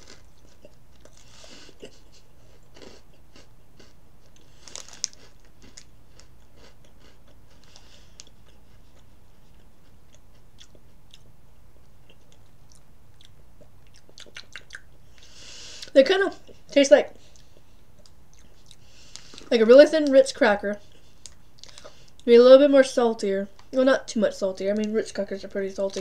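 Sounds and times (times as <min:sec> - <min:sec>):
chewing crunchy crackers: 0:00.0 - 0:20.1, 0:20.9 - 0:22.3.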